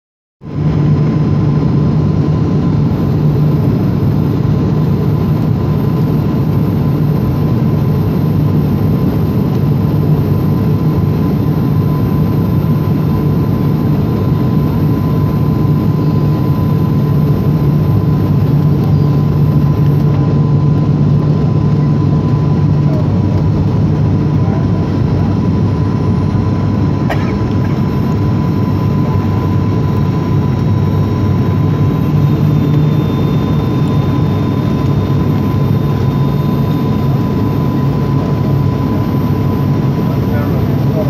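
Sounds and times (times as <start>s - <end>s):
airliner cabin engine drone: 0.4s - 41.0s
faint constant whine: 0.5s - 41.0s.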